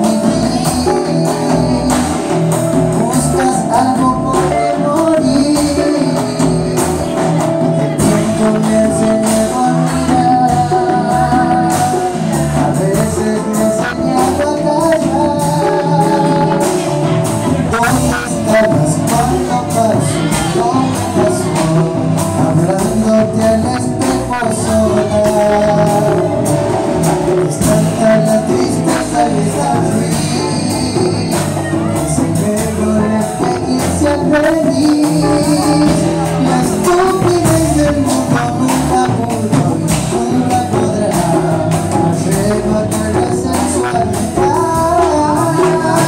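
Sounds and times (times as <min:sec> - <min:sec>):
congas: 0:00.0 - 0:46.0
electric guitars: 0:00.0 - 0:46.0.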